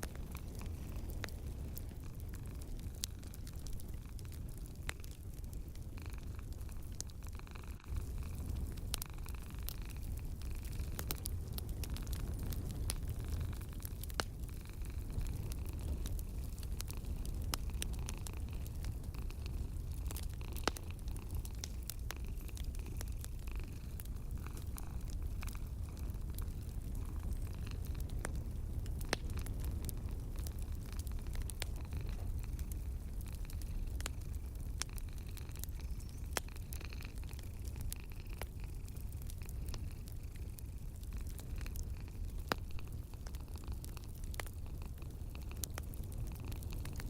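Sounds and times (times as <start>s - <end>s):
steady low rumble: 0.0s - 43.5s
fireplace fire crackling: 0.0s - 47.0s.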